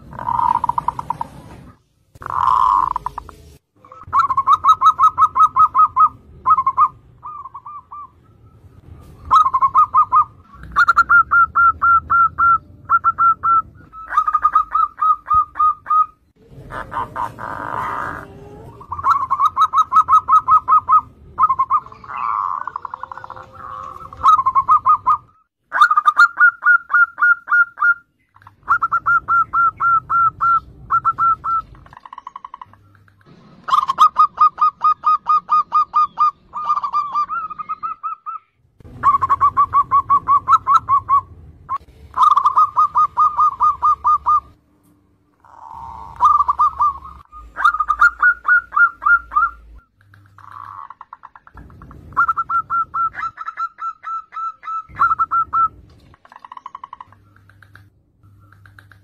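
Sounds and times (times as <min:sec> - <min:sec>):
doves cooing: 0:00.0 - 0:44.6, 0:45.3 - 0:59.0
background hum: 0:00.0 - 0:59.0.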